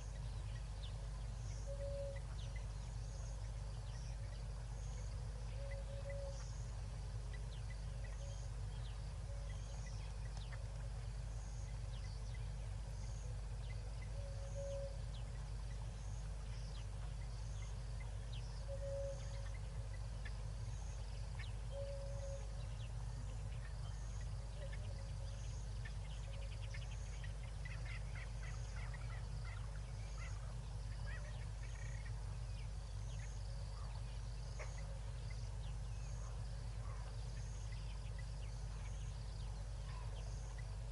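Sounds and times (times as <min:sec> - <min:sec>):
ducklings peeping: 0:00.0 - 0:40.9
steady low hum: 0:00.0 - 0:40.9.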